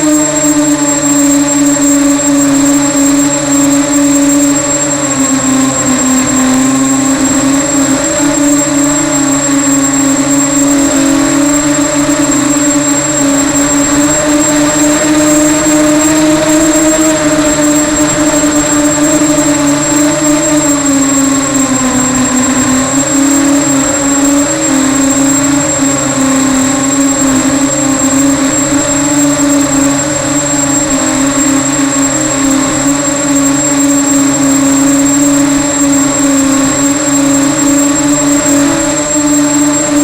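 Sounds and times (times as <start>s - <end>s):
drone motors buzzing: 0.0s - 40.0s
high whine: 0.0s - 40.0s.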